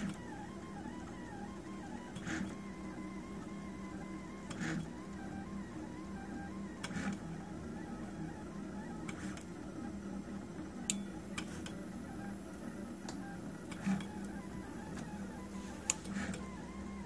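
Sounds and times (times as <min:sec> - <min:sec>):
stepper motors humming and whining: 0:00.0 - 0:17.0.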